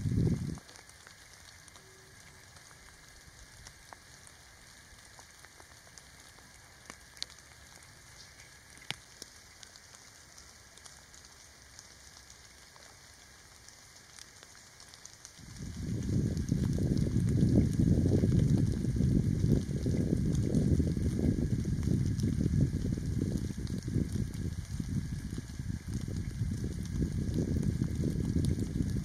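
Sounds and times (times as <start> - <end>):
light rain hissing: 0.0 - 29.0
water dripping: 0.0 - 29.0.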